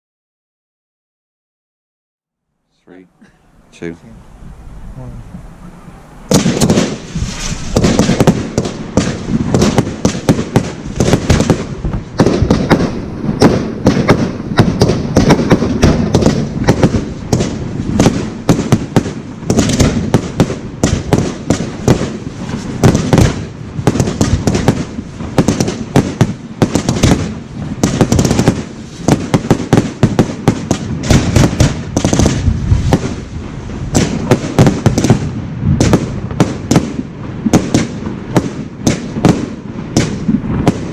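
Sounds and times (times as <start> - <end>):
fireworks bangs: 2.8 - 40.9.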